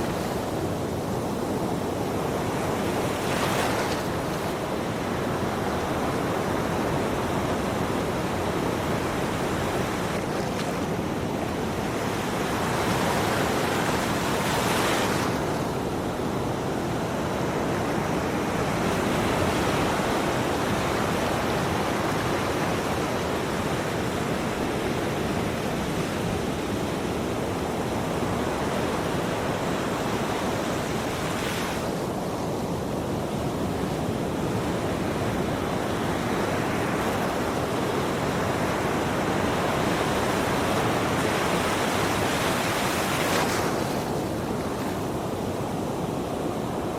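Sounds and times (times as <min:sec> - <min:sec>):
ocean waves washing in: 0:00.0 - 0:46.9.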